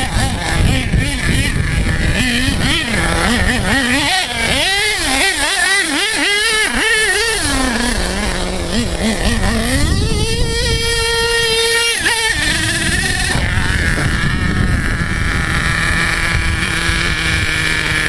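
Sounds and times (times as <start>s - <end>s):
small nitro engine revving: 0.0s - 18.0s.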